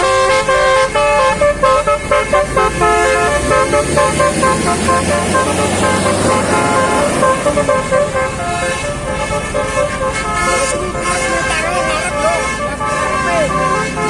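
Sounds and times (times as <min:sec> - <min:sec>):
bus musical horn melody: 0:00.0 - 0:14.0.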